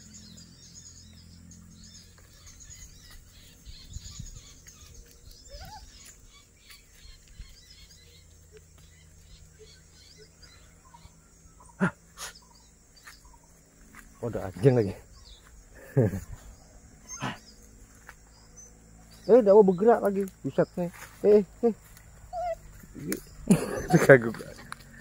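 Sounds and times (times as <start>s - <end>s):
small birds twittering: 0.0s - 25.0s.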